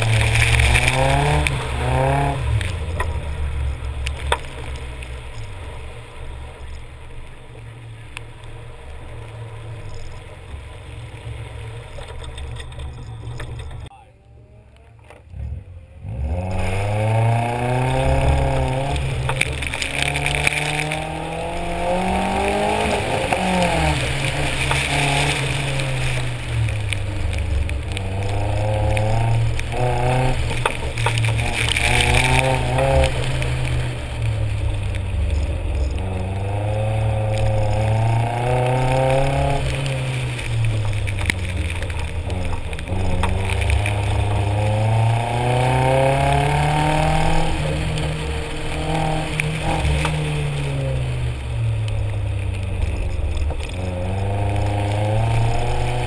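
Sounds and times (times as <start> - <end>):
tyres hissing on wet pavement: 0.0 - 13.7, 16.0 - 56.0
car engine accelerating: 0.0 - 56.0.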